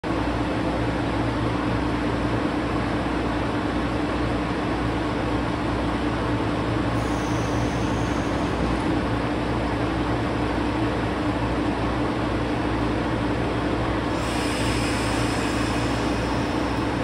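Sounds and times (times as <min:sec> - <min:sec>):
diesel railcar engine idling: 0:00.1 - 0:17.0.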